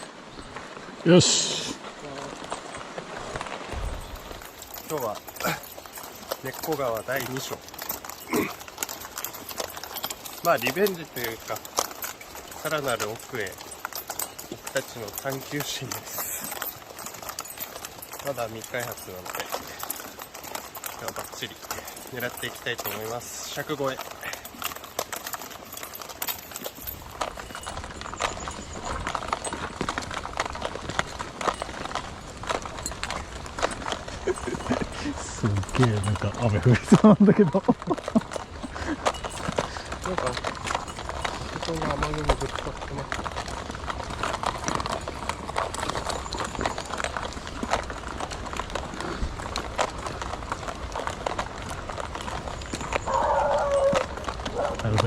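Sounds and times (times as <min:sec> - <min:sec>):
footsteps on stony ground: 0:00.0 - 0:55.0.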